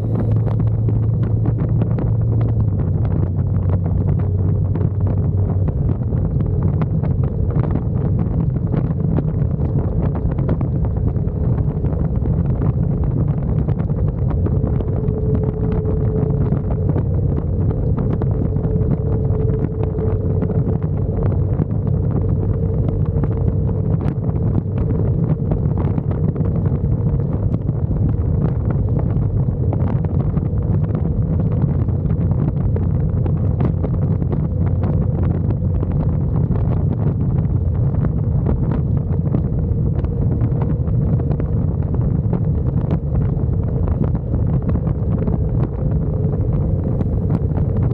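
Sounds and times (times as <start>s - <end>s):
faint motorcycle hum: 0.0s - 47.9s
wind rushing over microphone: 0.0s - 47.9s.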